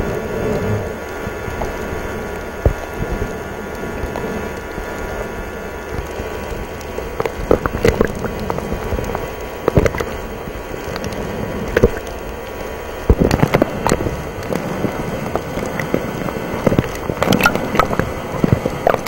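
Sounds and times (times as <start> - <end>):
muffled underwater rush: 0.0 - 19.0
sharp pops and clicks: 2.6 - 3.2, 4.1 - 19.0.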